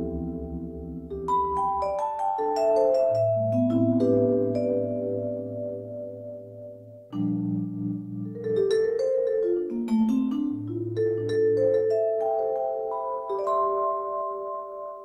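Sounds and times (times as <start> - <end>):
vibraphone chords and runs: 0.0 - 15.0.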